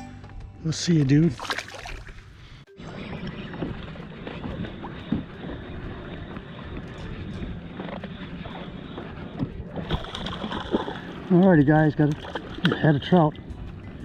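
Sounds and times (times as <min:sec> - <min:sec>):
wind: 0:00.0 - 0:14.0
water noise: 0:01.0 - 0:14.0.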